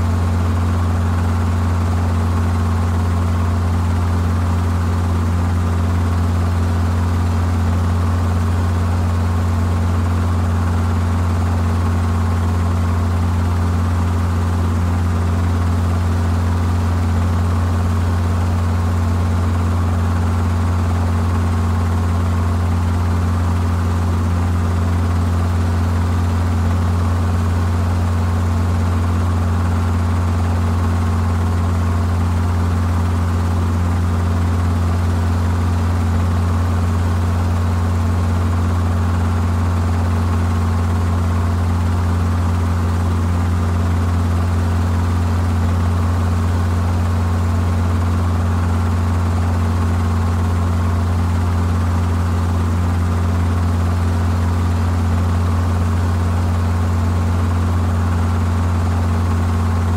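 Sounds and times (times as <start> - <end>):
helicopter rotor and engine hum: 0.0 - 59.9.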